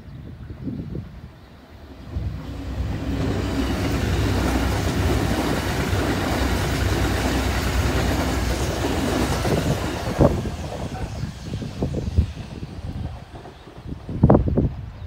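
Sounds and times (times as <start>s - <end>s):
electric train running past: 0.8s - 15.0s.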